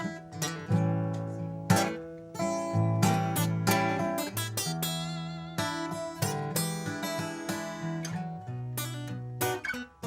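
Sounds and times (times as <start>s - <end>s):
acoustic guitar blues: 0.0s - 10.0s.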